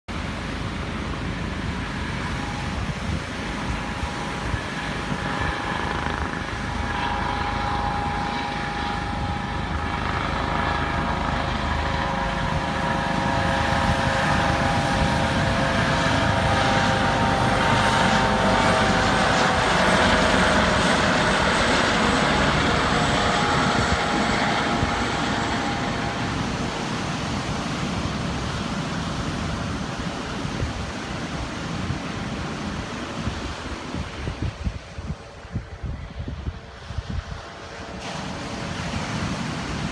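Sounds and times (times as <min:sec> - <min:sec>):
helicopter flying past: 0:00.1 - 0:39.9.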